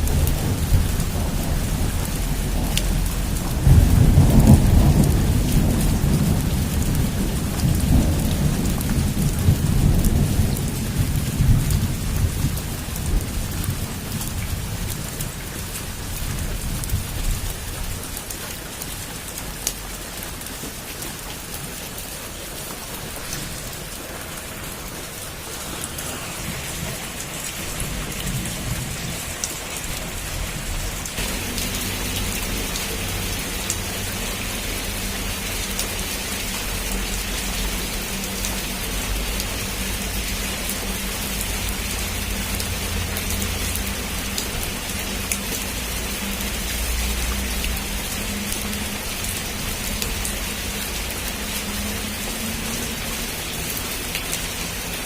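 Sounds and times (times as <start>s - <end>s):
thunder rumbling: 0.0s - 18.1s, 22.2s - 52.2s
heavy rain on a roof: 0.0s - 55.0s.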